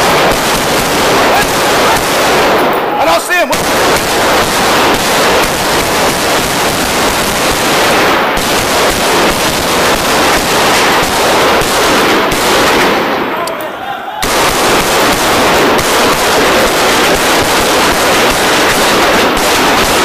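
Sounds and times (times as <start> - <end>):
automatic gunfire: 0.0 - 13.4, 14.2 - 20.0.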